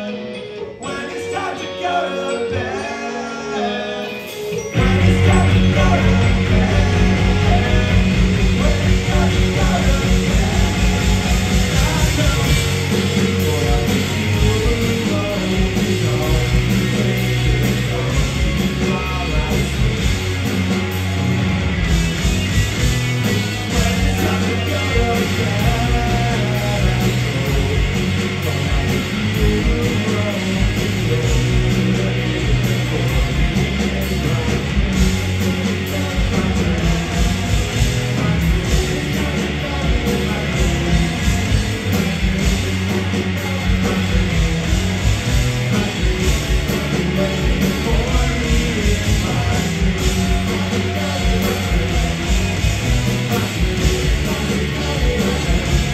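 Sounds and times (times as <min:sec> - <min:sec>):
person singing: 0:00.0 - 0:20.6, 0:23.2 - 0:55.9
punk rock band playing live: 0:00.0 - 0:55.9.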